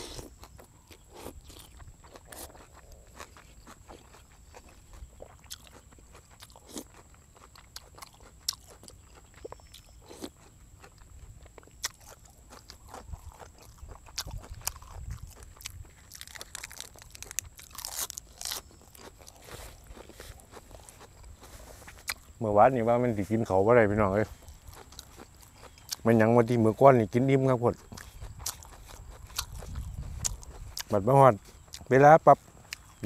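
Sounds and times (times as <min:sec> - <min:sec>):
person chewing food: 0:00.0 - 0:22.4, 0:23.4 - 0:33.0.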